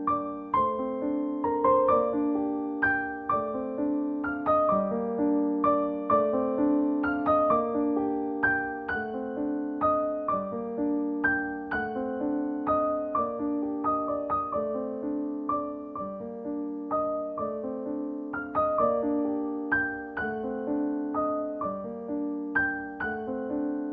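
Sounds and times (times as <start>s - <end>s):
soft piano melody: 0.0s - 23.9s.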